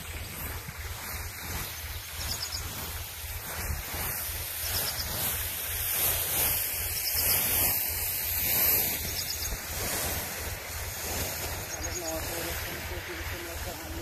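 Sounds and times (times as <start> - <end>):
spray gun rushing hiss: 0.0 - 14.0
wind buffeting microphone: 0.0 - 14.0.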